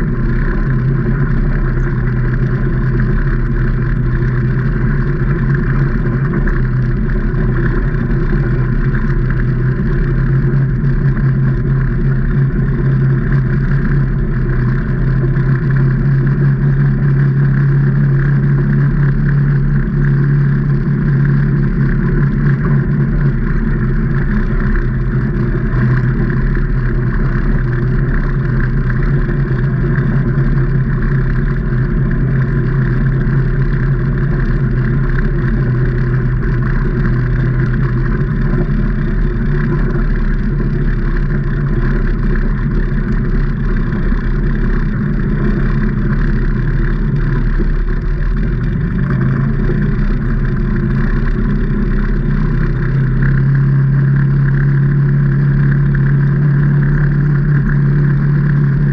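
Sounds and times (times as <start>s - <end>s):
off-road vehicle engine running: 0.0s - 58.9s.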